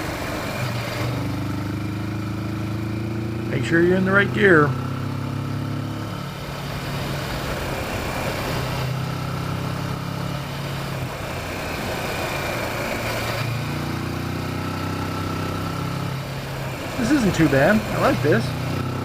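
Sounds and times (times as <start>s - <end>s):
motorcycle engine running: 0.0s - 19.0s
rush of wind and road noise: 0.0s - 19.0s.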